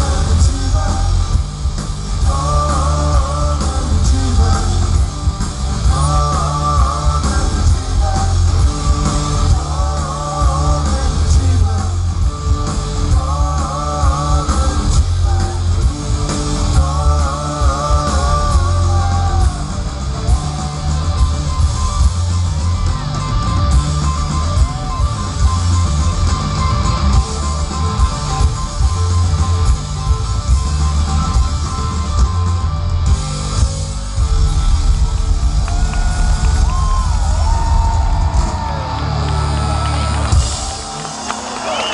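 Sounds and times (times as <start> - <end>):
heavy bass: 0.0 - 41.9
live rock band through loudspeakers: 0.0 - 41.9.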